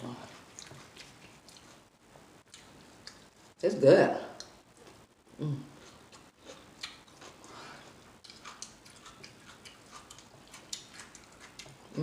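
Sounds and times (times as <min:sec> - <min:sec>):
person chewing with lip smacking: 0:00.2 - 0:03.5, 0:04.4 - 0:05.1, 0:05.7 - 0:12.0.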